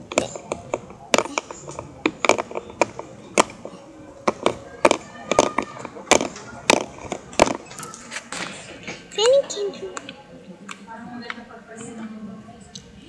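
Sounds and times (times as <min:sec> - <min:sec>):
plastic toys tapping and clicking: 0:00.0 - 0:11.4.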